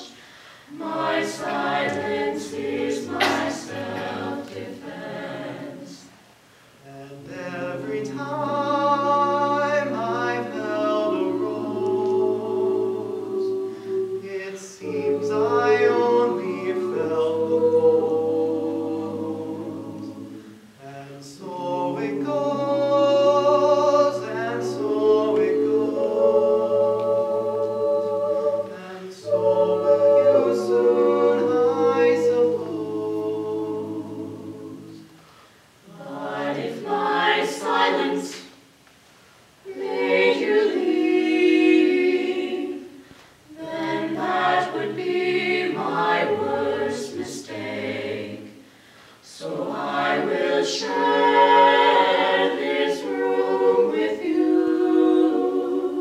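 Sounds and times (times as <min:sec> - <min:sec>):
vocal ensemble singing a ballad: 0:00.0 - 0:56.0.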